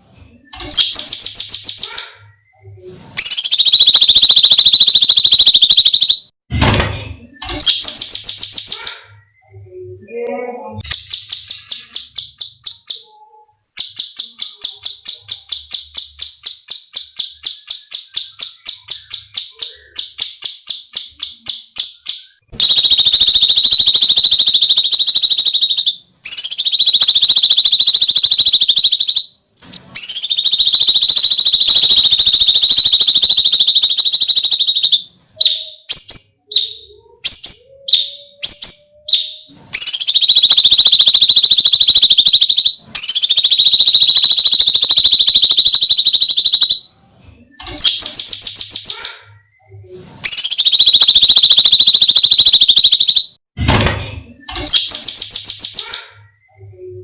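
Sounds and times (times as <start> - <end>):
songbird calling shrill: 0.3 - 2.6, 3.2 - 6.3, 10.8 - 29.3, 30.0 - 49.2, 50.3 - 53.4.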